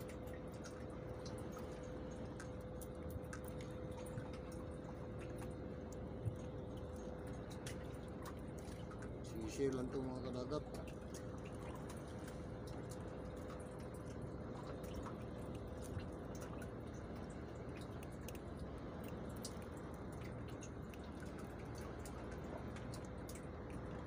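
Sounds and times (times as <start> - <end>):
faint steady hum: 0.0 - 24.0
light drips and ticks: 0.0 - 24.0
sea water washing around boat: 0.0 - 24.0.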